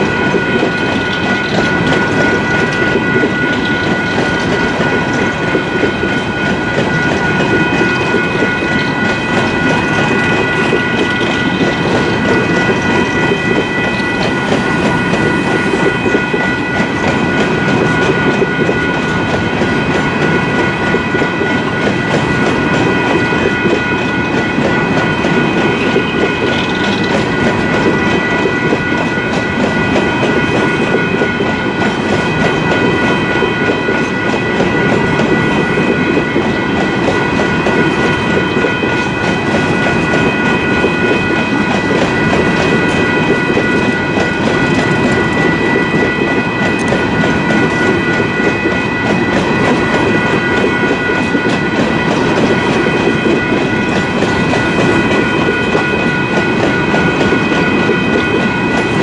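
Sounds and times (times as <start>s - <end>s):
crossing bell ringing: 0.0s - 59.0s
freight train rolling past: 0.0s - 59.0s.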